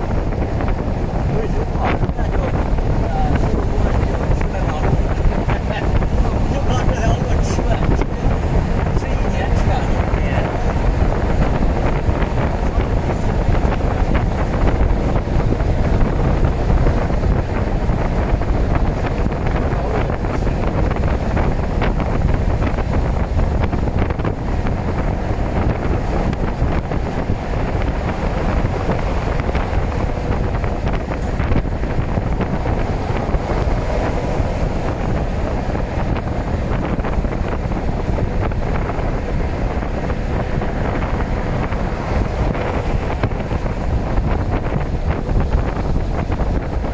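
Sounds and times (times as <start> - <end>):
freight train rumbling past: 0.0 - 46.9
wind buffeting microphone: 0.0 - 46.9.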